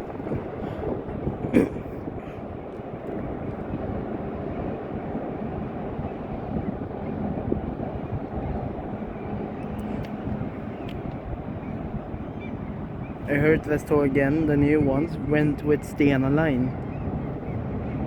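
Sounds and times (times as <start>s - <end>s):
boat engine rumble: 0.0s - 18.0s
water noise: 0.0s - 18.0s
wind: 0.0s - 18.0s.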